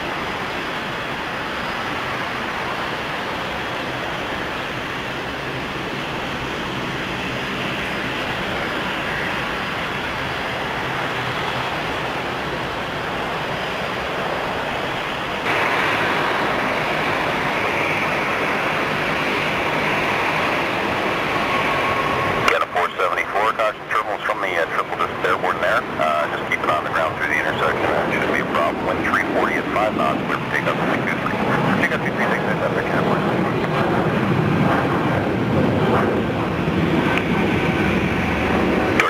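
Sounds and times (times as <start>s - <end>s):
jet airliner engines rushing: 0.0s - 39.0s.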